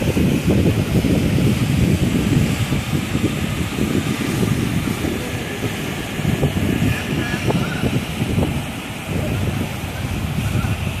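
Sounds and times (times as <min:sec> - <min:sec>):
water pouring over a weir: 0:00.0 - 0:11.0
wind buffeting microphone: 0:00.0 - 0:11.0.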